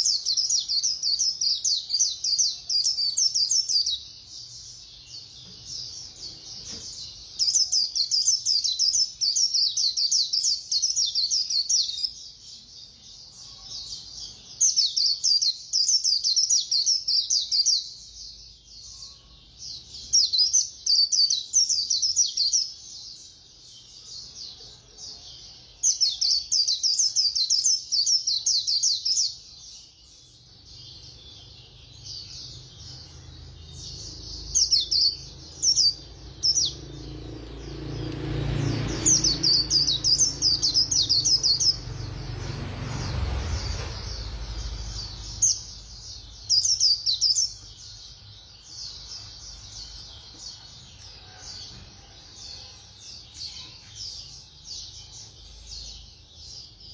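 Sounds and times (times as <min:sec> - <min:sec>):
bird twittering song: 0:00.0 - 0:56.9.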